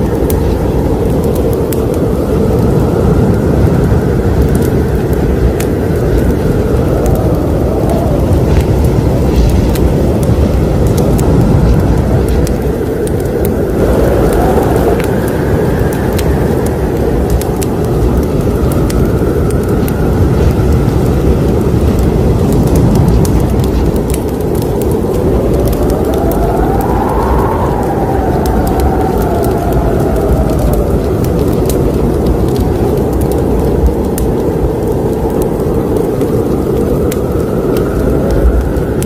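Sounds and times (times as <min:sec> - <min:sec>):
fire crackling and popping: 0:00.0 - 0:39.0
fire roaring: 0:00.0 - 0:39.0.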